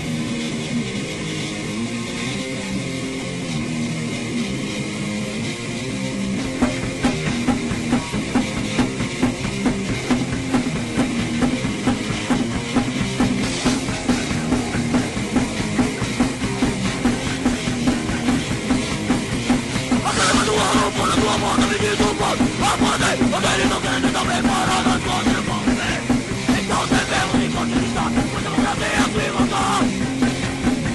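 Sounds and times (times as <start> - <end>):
bass guitar: 0.0 - 30.9
distorted electric guitar: 0.0 - 30.9
drum kit beat: 5.8 - 30.9.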